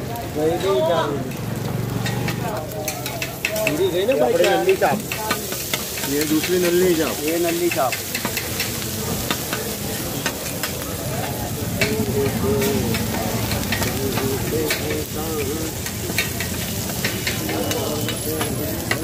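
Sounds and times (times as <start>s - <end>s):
meat sizzling on a griddle: 0.0s - 19.0s.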